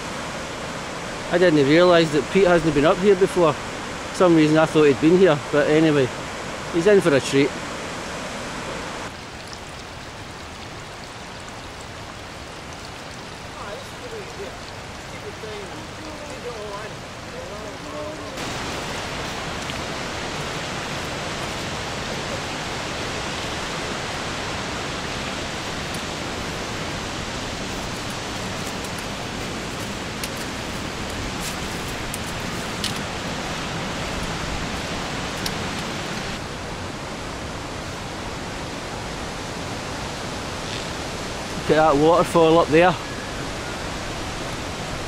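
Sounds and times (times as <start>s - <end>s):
fast-flowing river water: 0.0s - 45.0s.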